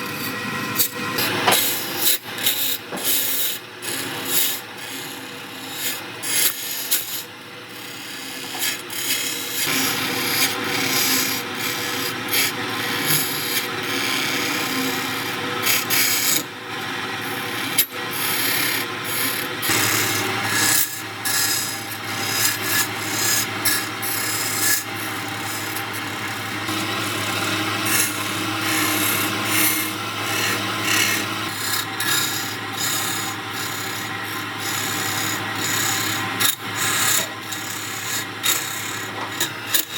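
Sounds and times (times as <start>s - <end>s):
tool scraping wood on lathe: 0.0s - 39.9s.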